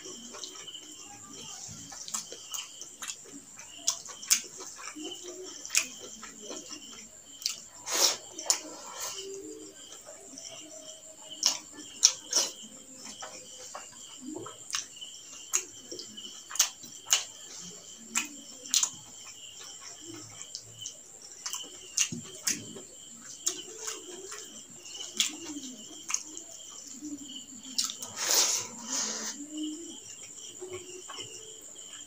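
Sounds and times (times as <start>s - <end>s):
person chewing with wet smacks: 0.0s - 28.9s.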